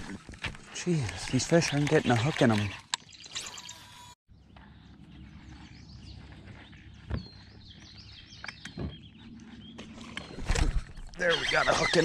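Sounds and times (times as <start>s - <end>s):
small birds chirping: 0.7s - 12.0s.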